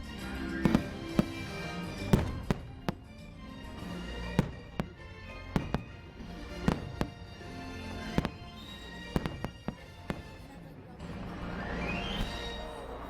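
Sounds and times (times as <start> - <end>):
soundtrack music: 0.0 - 10.2, 10.8 - 13.0
fireworks bangs: 0.4 - 12.7.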